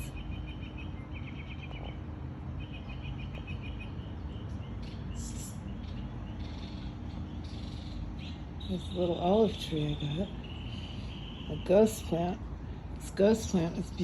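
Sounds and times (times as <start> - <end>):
songbirds chirping and trilling: 0.0 - 14.0
steady background noise: 0.0 - 14.0.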